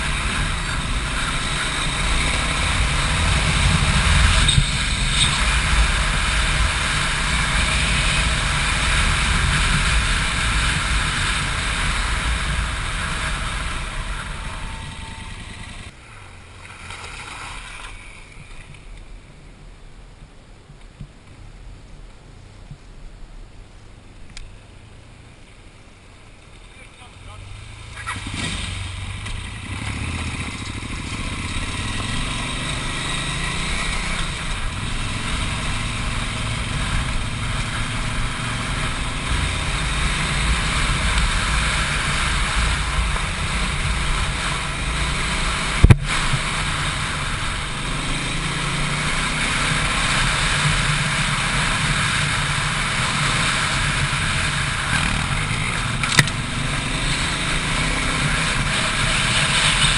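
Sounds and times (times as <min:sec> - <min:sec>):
motorcycle engine revving: 0:00.0 - 0:18.0, 0:27.2 - 0:59.9.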